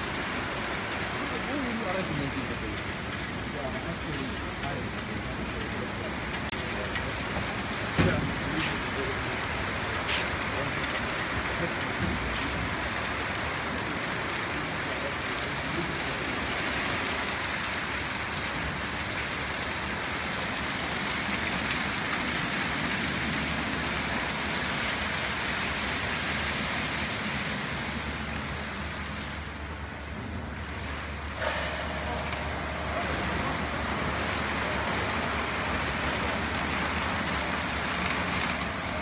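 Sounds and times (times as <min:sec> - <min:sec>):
water spraying: 0:00.0 - 0:39.0.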